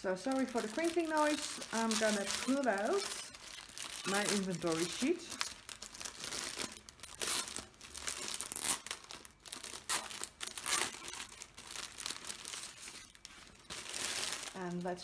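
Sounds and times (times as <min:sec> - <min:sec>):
plastic and paper crinkling: 0:00.0 - 0:15.0.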